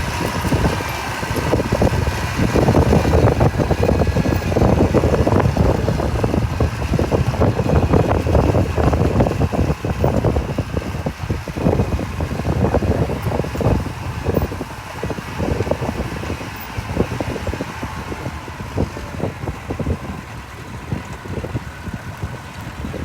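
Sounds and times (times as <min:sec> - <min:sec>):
bulldozer diesel engine working: 0:00.0 - 0:23.0.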